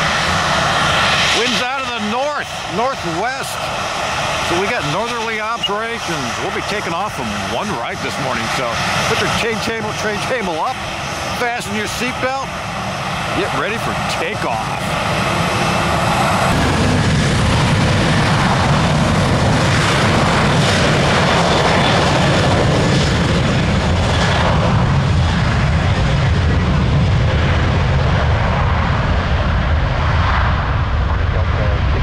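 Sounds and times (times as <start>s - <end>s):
jet engines roaring at takeoff: 0.0s - 32.0s.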